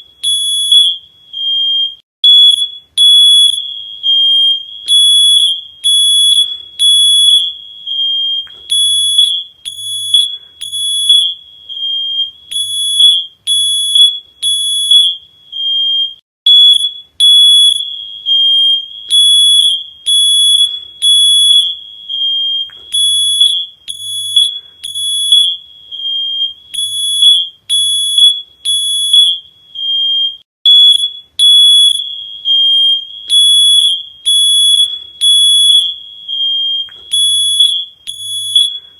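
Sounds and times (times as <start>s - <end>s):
electronic alarm beeping: 0.0s - 38.9s.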